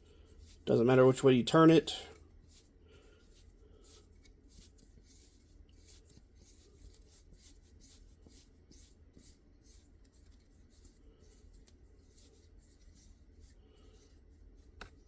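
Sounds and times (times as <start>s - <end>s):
faint scratching of screw turning: 2.0s - 15.0s.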